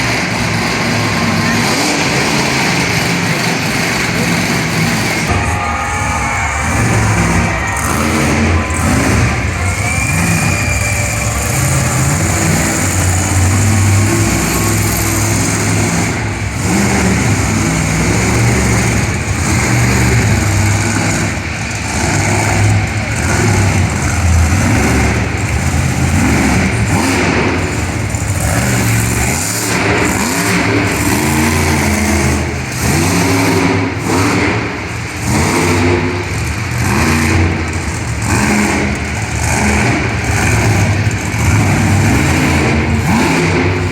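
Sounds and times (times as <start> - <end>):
truck engine revving hard: 0.0 - 43.9.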